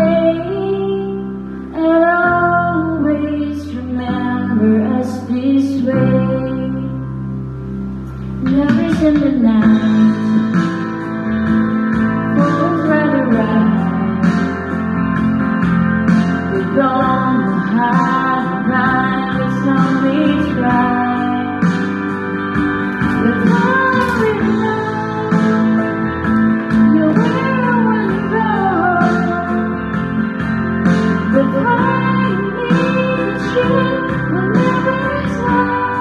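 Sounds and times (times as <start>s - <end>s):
woman singing into microphone: 0.0s - 7.1s, 8.4s - 11.2s, 11.9s - 15.0s, 15.9s - 36.0s
karaoke backing track with guitar: 0.0s - 36.0s.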